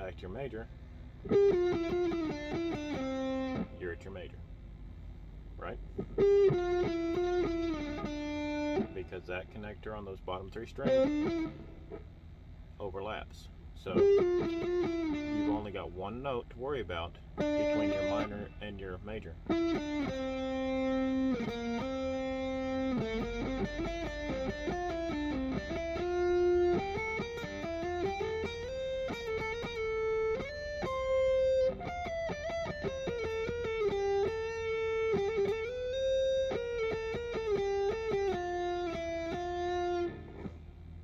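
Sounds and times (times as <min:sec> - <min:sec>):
electric guitar scale runs: 0:01.3 - 0:04.2, 0:05.6 - 0:11.6, 0:13.9 - 0:15.9, 0:17.4 - 0:18.8, 0:19.4 - 0:40.5.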